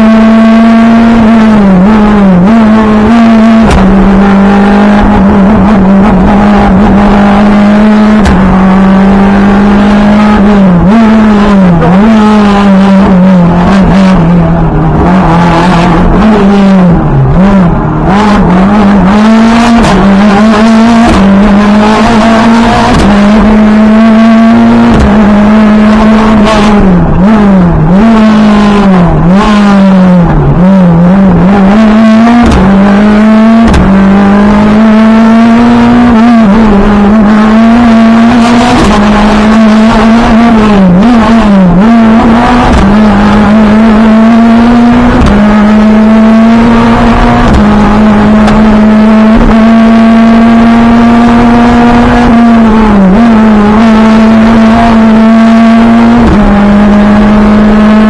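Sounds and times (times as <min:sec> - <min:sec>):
rally car engine at high revs: 0:00.0 - 0:58.0.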